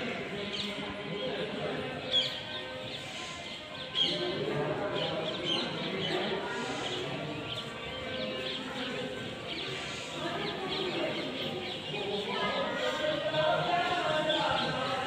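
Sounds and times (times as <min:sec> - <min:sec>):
murmur of people: 0:00.0 - 0:15.0
small birds chirping: 0:00.0 - 0:15.0.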